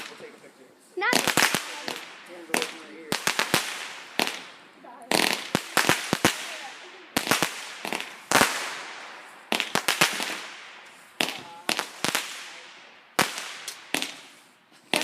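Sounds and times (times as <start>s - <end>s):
fireworks bangs with echo: 0.0s - 0.4s, 1.0s - 15.0s.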